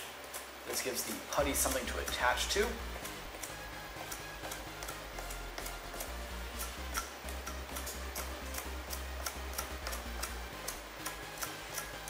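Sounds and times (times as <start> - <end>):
razor blade scratching wood: 0.0 - 12.0
soft background music: 0.0 - 12.0.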